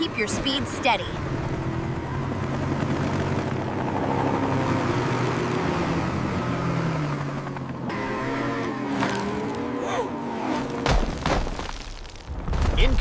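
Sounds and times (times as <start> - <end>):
vehicle engine running: 0.0 - 10.9.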